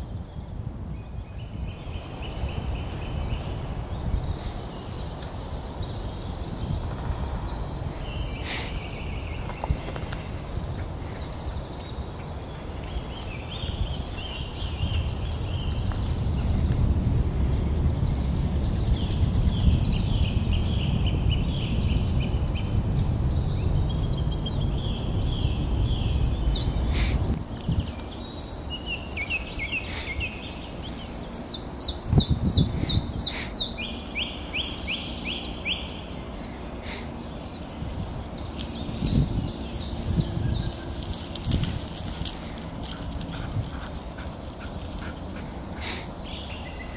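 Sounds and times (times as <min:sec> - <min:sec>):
woodland birds singing: 0:00.0 - 0:46.9.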